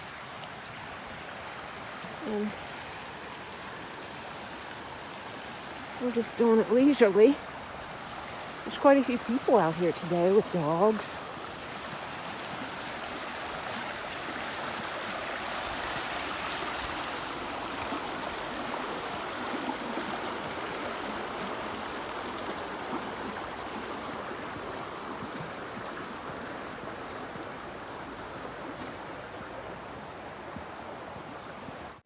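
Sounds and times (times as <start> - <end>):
stream gurgling over rocks: 0.0 - 32.0.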